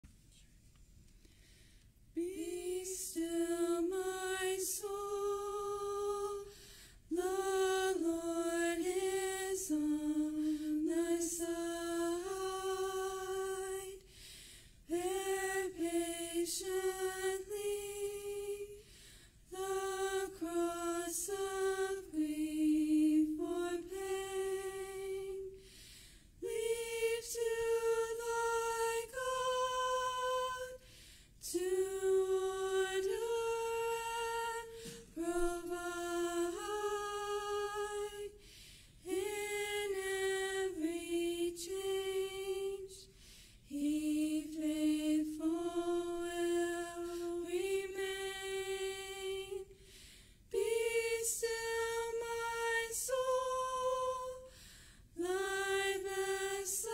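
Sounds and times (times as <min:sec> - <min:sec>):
women singing a hymn: 0:02.0 - 0:56.9.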